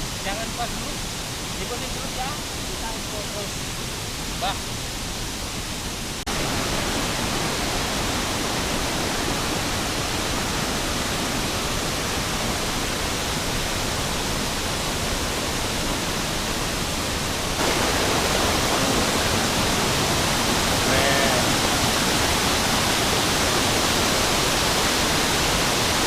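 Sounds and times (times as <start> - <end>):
waterfall: 0.0 - 26.0.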